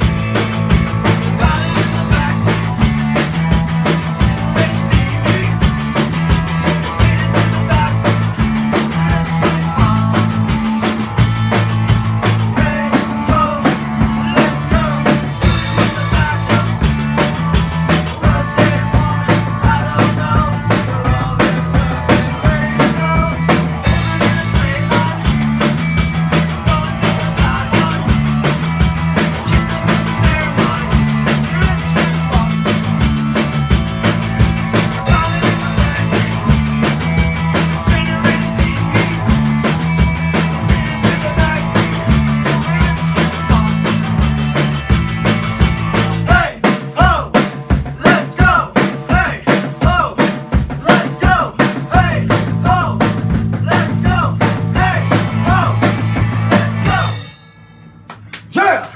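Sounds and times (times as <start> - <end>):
sustained bass notes: 0.0 - 46.5, 52.0 - 57.4
drum kit steady beat: 0.0 - 57.5
band playing live music: 0.0 - 58.9.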